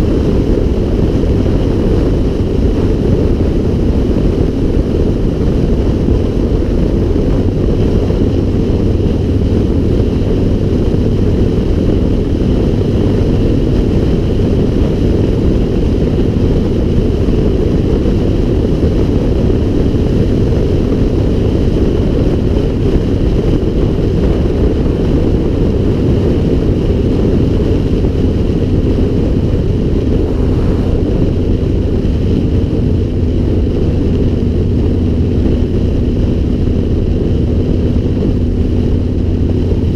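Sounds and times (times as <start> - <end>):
low hum: 0.0 - 39.9
wind rumble on microphone: 0.0 - 39.9.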